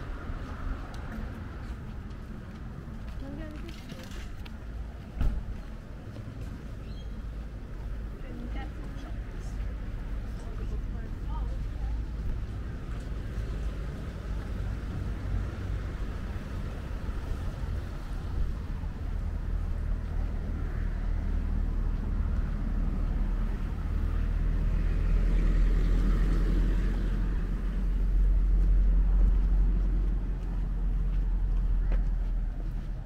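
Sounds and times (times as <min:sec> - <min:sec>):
vehicle engine humming: 0:00.0 - 0:33.0.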